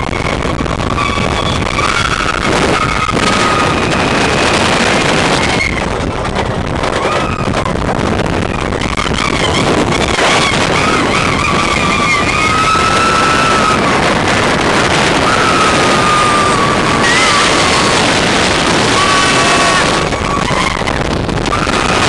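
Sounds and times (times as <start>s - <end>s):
roller coaster train rumbling: 0.0s - 22.0s
wind rushing on microphone: 0.0s - 22.0s
riders screaming: 0.2s - 6.0s, 6.8s - 7.7s, 8.4s - 22.0s.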